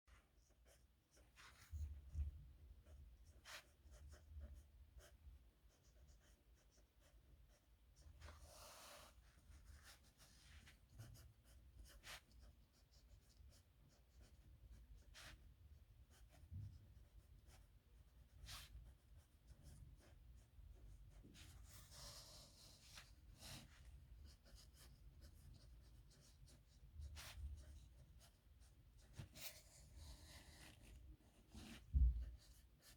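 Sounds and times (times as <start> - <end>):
pen scratching on paper: 0.6 - 15.5, 16.1 - 32.9.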